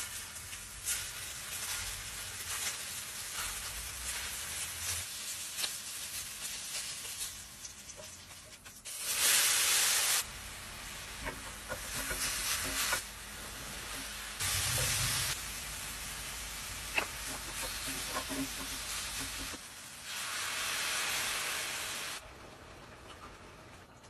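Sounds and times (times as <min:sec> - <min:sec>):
food sizzling in hot oil: 0:00.0 - 0:22.2.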